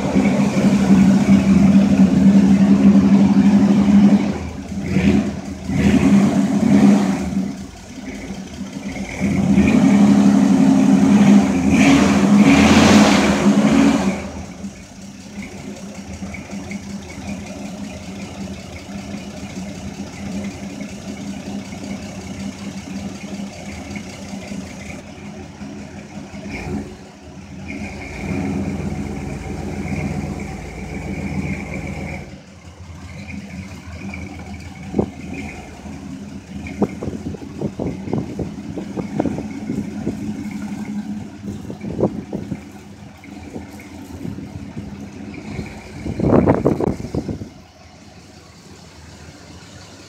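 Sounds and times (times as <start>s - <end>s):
engine crackles and pops: 0.0s - 50.0s
truck engine idling: 0.0s - 50.0s.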